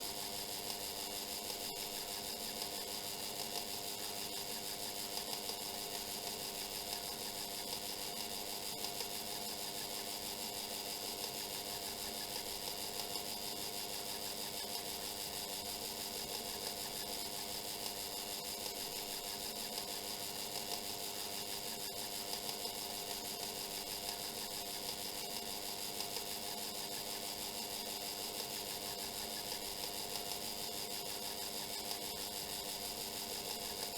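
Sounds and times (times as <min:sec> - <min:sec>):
timer whirring buzz: 0:00.0 - 0:33.9
faint timer clicks: 0:00.5 - 0:33.9.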